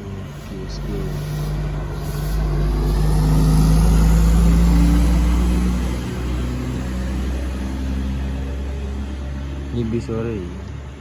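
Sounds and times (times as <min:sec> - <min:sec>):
coach bus passing: 0:00.0 - 0:11.0.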